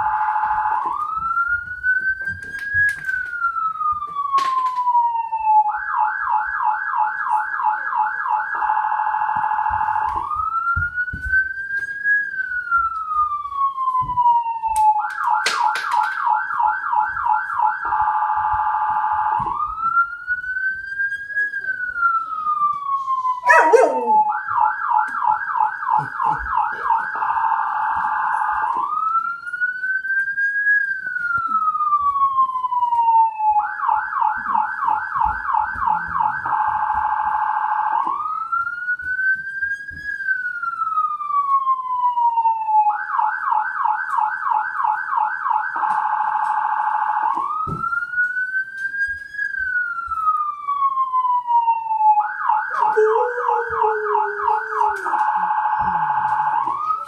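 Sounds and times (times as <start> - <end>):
police siren wailing and yelping: 0.0 - 57.0.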